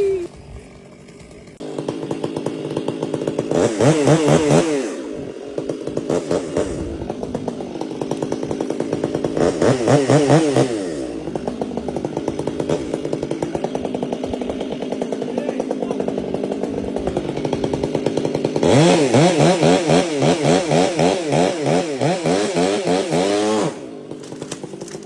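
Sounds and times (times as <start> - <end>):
chainsaw engine running: 0.0 - 25.0.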